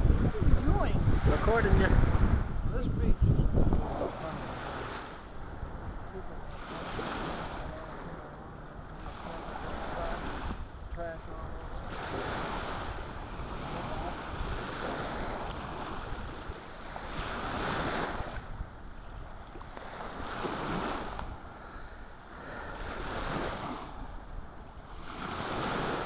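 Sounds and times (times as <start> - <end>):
waves on a beach: 0.0 - 26.0
wind on microphone: 0.0 - 26.0.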